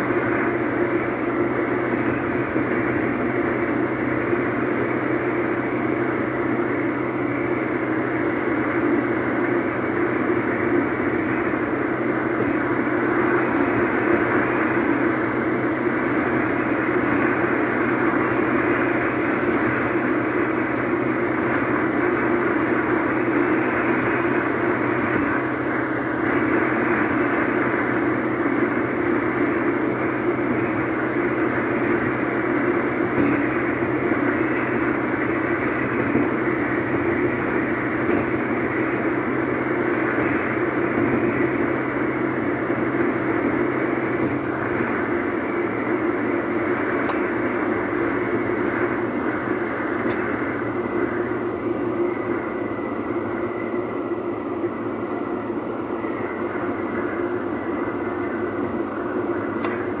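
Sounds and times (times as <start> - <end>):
low drone: 0.0 - 60.0
tyre and road noise: 0.0 - 60.0.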